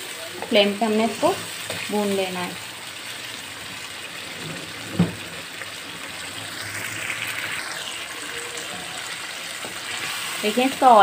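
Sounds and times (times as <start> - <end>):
chicken in gravy sizzling: 0.0 - 11.0.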